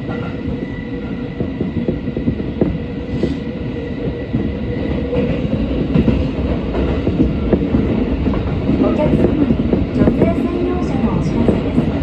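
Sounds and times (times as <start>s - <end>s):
subway train rumbling in tunnel: 0.0s - 12.0s.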